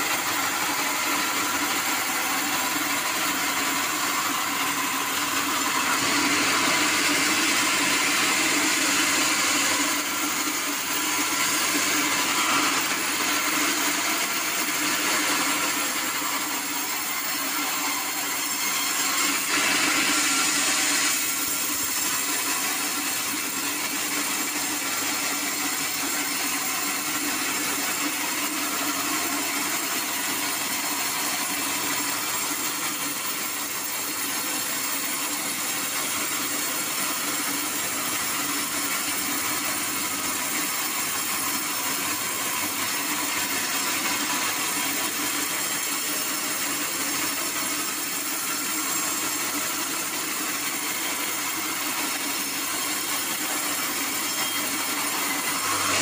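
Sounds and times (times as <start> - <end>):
band saw cutting wood: 0.0 - 56.0
saw motor running: 0.0 - 56.0.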